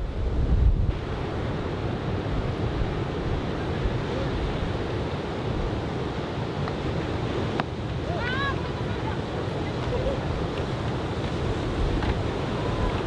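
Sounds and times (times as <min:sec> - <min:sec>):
surf breaking and washing ashore: 0:00.0 - 0:13.0
wind buffeting microphone: 0:00.0 - 0:13.0.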